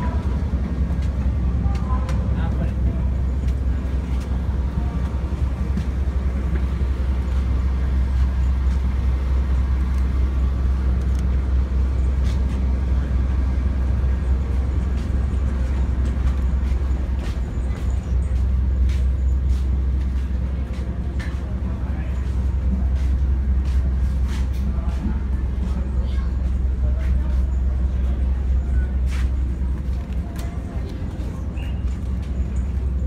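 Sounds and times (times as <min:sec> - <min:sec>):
ship engine rumble: 0:00.0 - 0:33.0
wind on deck: 0:00.0 - 0:33.0.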